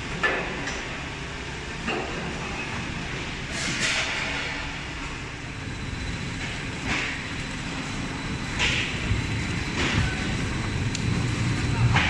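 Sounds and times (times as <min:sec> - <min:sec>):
lathe mechanical rumble: 0:00.0 - 0:12.0.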